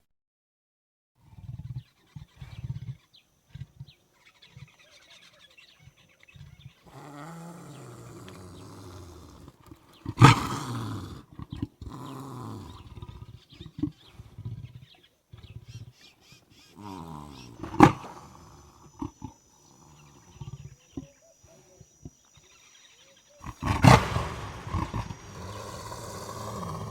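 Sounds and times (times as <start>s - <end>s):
leopard growling and grunting: 1.2s - 22.5s, 23.2s - 26.9s
leopard roar: 1.2s - 26.9s.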